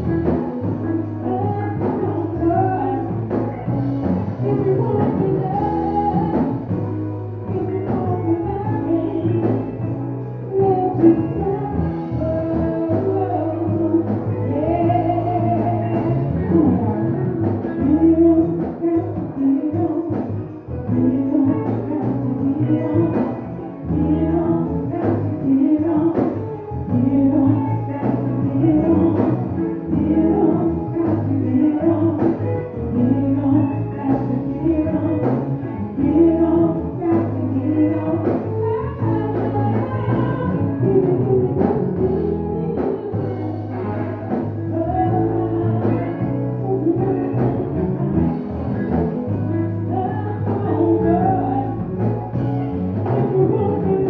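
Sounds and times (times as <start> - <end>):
band with keyboard bass drums: 0.0 - 54.0
woman singing into microphone: 0.0 - 54.0.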